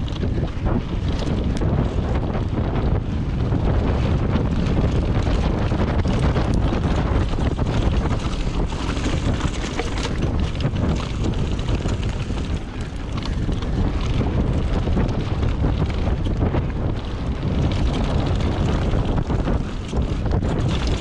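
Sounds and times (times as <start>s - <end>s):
bike rattles and knocks: 0.0s - 21.0s
tyre rumble: 0.0s - 21.0s
wind buffeting microphone: 0.0s - 21.0s.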